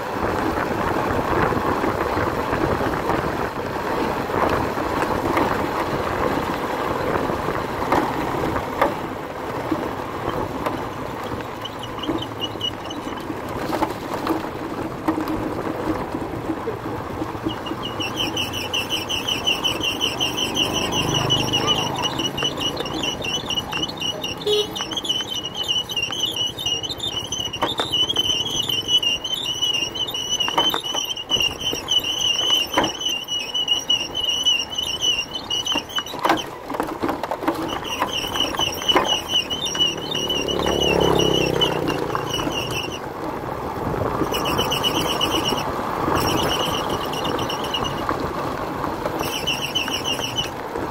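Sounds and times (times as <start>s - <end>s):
motorbike engine and road noise: 0.0s - 50.9s.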